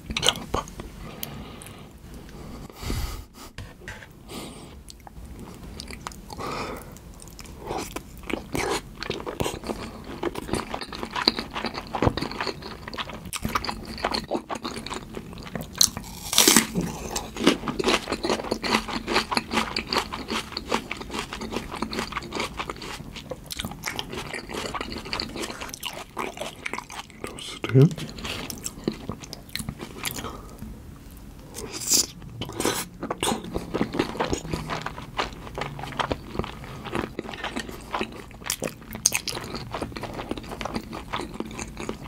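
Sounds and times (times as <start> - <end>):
wet chewing: 5.8 - 30.3, 31.6 - 42.0.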